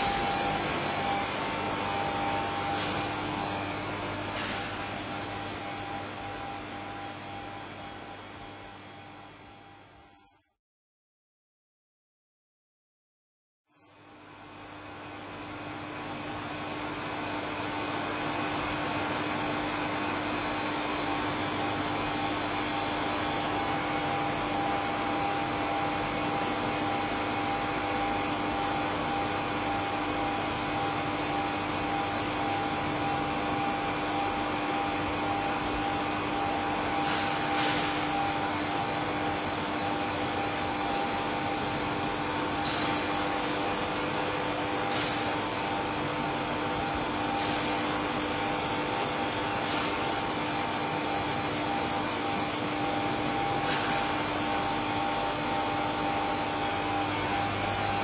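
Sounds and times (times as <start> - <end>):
steady electrical hum and buzz: 0.0 - 10.4, 13.8 - 58.0.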